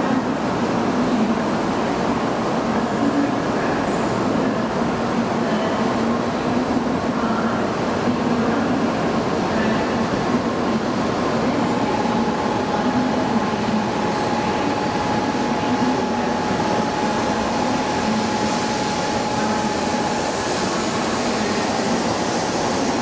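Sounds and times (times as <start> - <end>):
high train whine: 0.0 - 23.0
train rumbling: 0.0 - 23.0.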